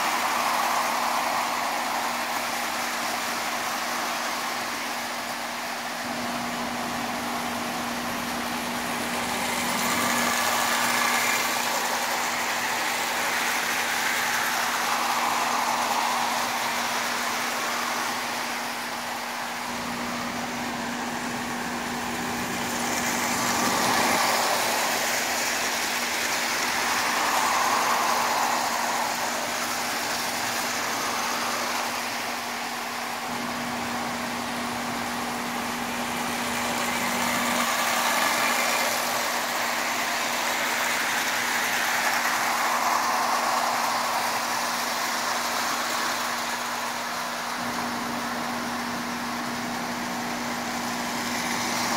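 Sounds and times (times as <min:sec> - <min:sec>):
toy train motor whirring: 0:00.0 - 0:51.9.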